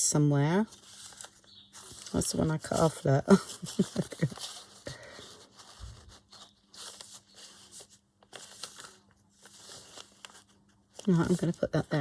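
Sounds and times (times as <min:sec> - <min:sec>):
paper rustling and scraping: 0:00.5 - 0:12.0.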